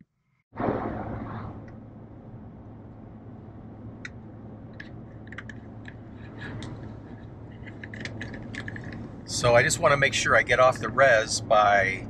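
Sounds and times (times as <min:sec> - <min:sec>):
road noise hum: 0:00.6 - 0:12.0.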